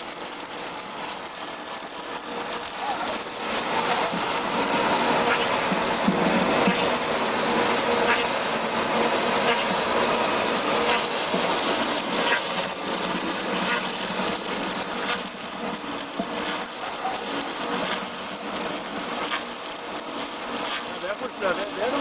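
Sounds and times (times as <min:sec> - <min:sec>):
faint motor hum: 0:00.0 - 0:22.0
lathe cutter working timber: 0:00.0 - 0:22.0.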